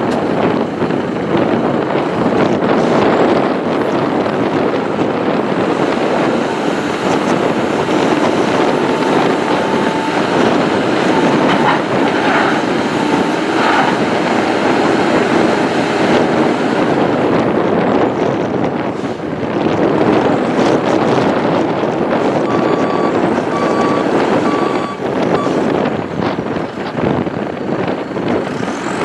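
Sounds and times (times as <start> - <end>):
diesel engine drone: 0.0 - 29.0.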